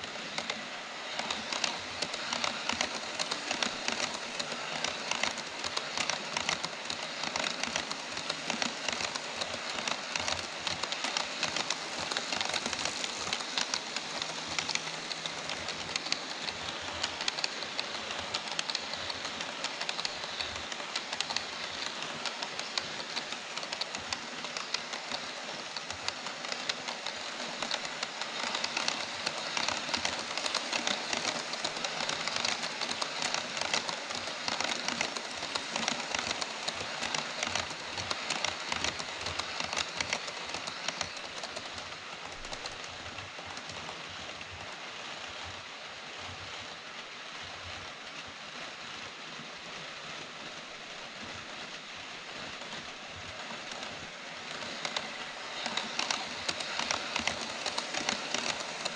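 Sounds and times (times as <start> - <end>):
model train wheels clattering: 0.0 - 58.9.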